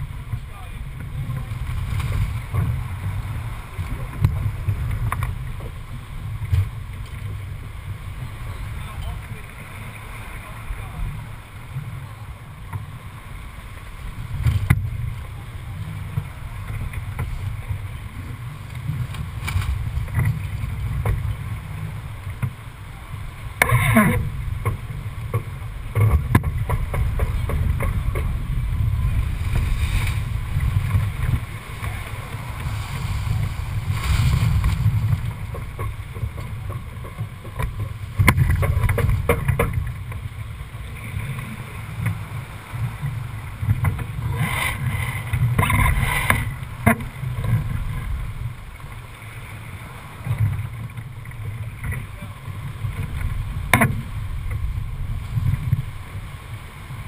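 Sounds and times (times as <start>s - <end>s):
water rushing along hull: 0.0s - 57.0s
wind buffeting microphone: 0.0s - 57.0s.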